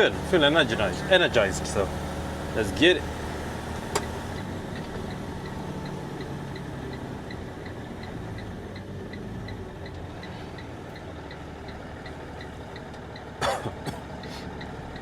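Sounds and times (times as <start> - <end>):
truck engine humming: 0.0 - 15.0
turn signal ticking: 0.0 - 15.0.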